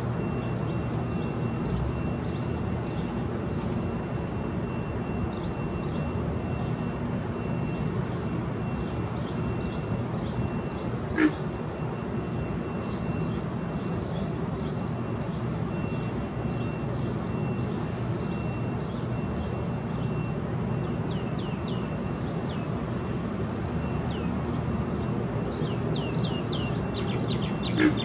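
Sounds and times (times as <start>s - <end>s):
small birds chirping: 0.0s - 4.4s, 7.5s - 22.8s, 23.6s - 28.0s.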